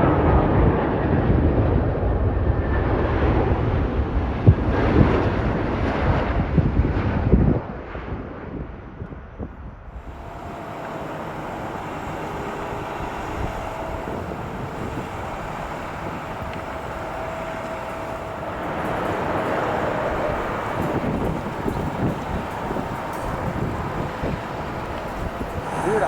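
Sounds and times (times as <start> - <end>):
jet airliner engines rumbling: 0.0 - 8.9, 9.9 - 26.0
wind buffeting microphone: 0.0 - 26.0.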